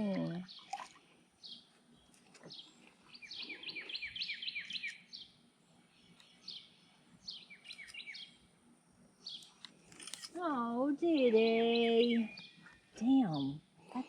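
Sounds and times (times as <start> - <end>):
songbird chirping: 0.1 - 8.6, 9.2 - 13.7.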